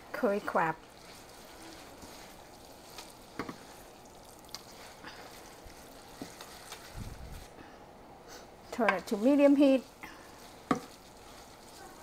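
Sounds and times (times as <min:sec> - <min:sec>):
faint sizzle: 0:00.0 - 0:12.0
noodles squishing in sauce: 0:00.4 - 0:07.6, 0:08.7 - 0:12.0.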